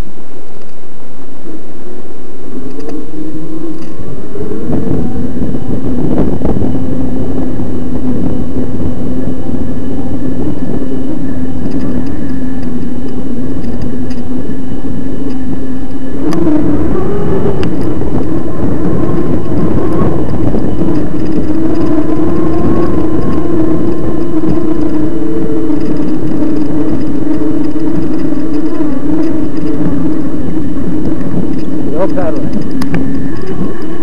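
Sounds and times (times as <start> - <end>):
electric bike motor whining: 0.0 - 34.0
wind rumble on microphone: 0.0 - 34.0.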